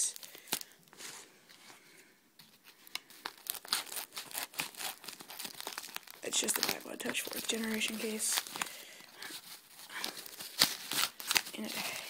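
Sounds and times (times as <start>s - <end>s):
plastic wrapping crinkling: 0.0s - 1.6s, 2.4s - 12.0s.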